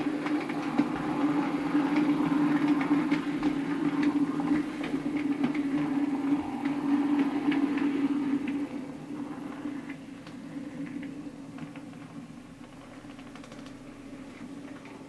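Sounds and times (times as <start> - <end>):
model train motor hum: 0.0 - 15.0
wheels clicking over rail joints: 0.0 - 15.0.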